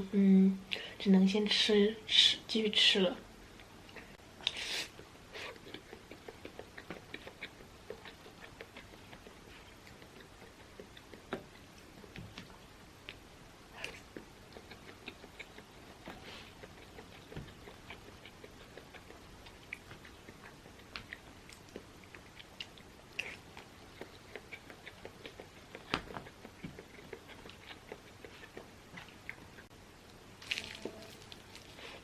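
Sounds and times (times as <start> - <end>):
close chewing and mouth noises: 3.5 - 32.0.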